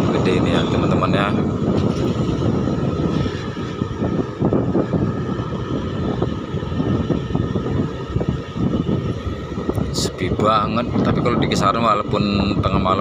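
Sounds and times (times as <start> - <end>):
motorcycle engine rumbling: 0.0 - 13.0
road noise: 0.0 - 13.0
wind buffeting microphone: 0.0 - 13.0.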